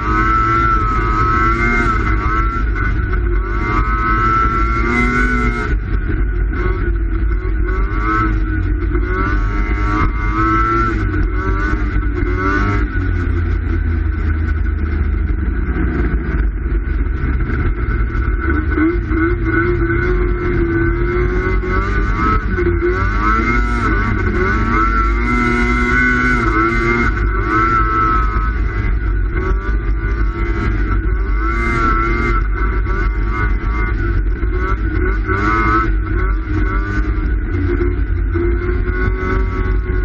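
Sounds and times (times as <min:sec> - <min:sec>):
snowmobile engine running: 0:00.0 - 0:40.0.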